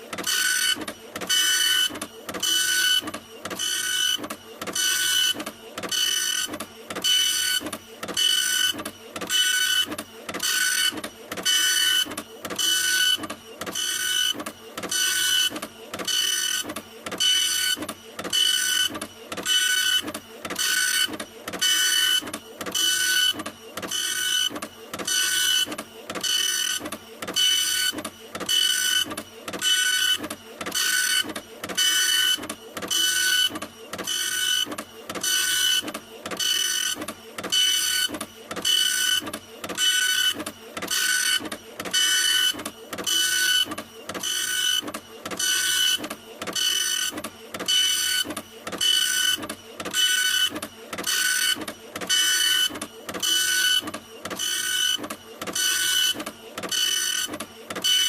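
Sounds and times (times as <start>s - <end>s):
printer head moving back and forth: 0.0s - 58.0s
printer mechanical rattle: 0.0s - 58.0s
printer motor whine: 0.0s - 58.0s.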